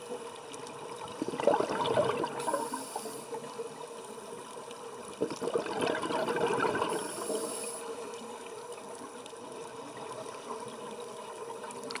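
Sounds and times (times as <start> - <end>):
steady underwater hiss: 0.0 - 12.0
underwater bubbling: 0.0 - 12.0.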